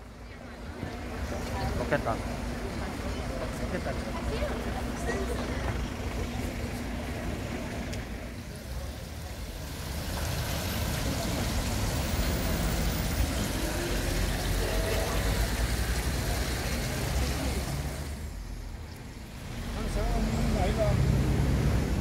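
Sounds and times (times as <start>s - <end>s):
faint voices: 0.0s - 21.6s
low rumble of traffic: 0.0s - 22.0s.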